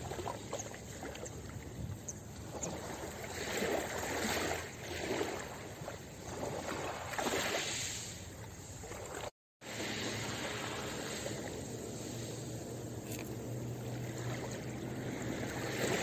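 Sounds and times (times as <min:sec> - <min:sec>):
waves lapping on pebble shore: 0:02.6 - 0:16.0.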